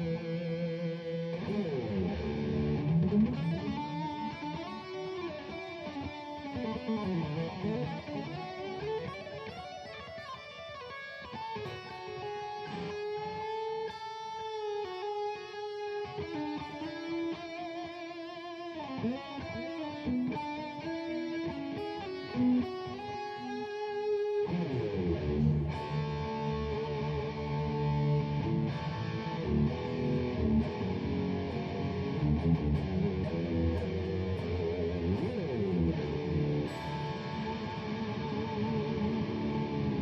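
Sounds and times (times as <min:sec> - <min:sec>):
electric guitar through amp: 0:00.0 - 0:40.0.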